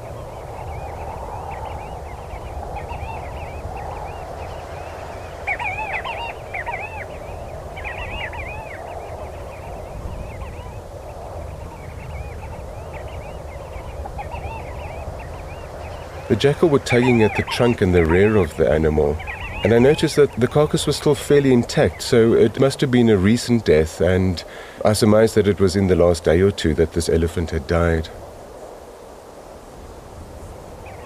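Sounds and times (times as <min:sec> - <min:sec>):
birds chirping: 0:00.0 - 0:29.2, 0:29.8 - 0:31.0.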